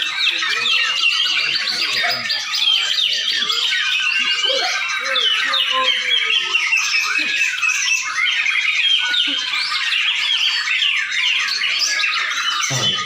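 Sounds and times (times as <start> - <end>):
birds singing whistles and chatter: 0.0 - 13.0.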